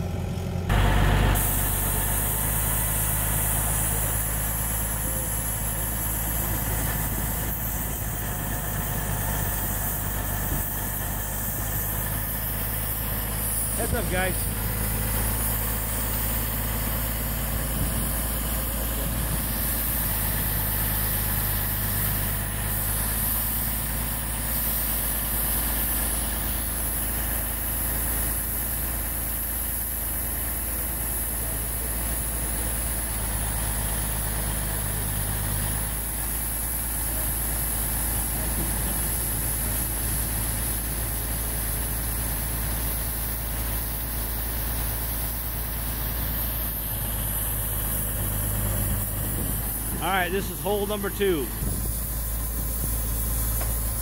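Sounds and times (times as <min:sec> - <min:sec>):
drilling rig engine humming: 0:00.0 - 0:54.0.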